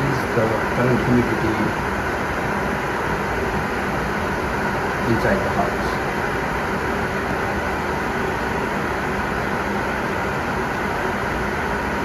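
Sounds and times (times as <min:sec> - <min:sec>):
dehumidifier fan whirring: 0:00.0 - 0:12.0.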